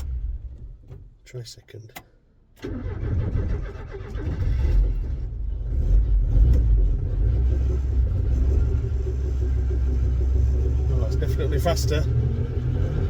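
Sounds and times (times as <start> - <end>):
engine starting and rumbling: 0.0 - 1.2, 2.5 - 13.0.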